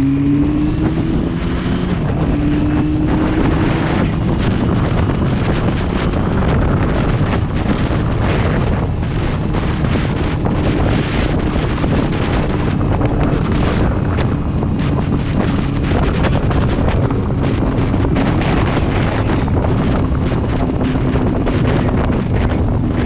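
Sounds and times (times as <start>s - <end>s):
engine drone: 0.0s - 23.0s
wind buffeting microphone: 0.0s - 23.0s.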